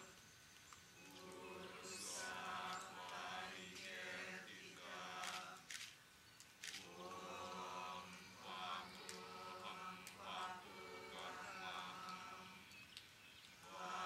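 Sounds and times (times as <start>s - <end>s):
voices chanting: 0.0s - 14.0s.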